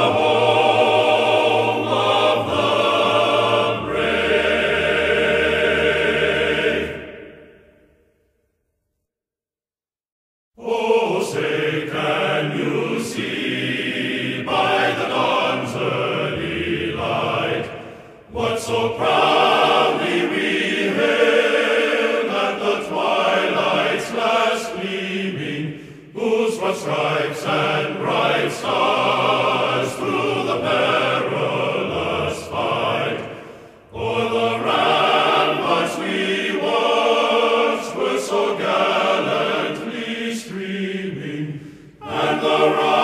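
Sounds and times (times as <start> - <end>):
choir singing: 0.0 - 8.0, 10.6 - 43.0.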